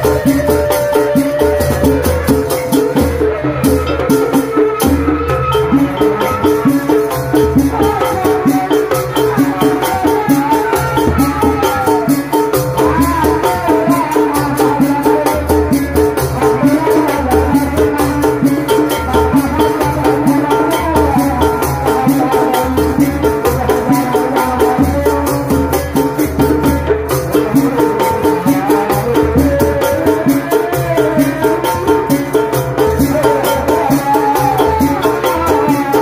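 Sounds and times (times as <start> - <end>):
fast even drumming: 0.0 - 36.0
shaken percussion: 0.0 - 36.0.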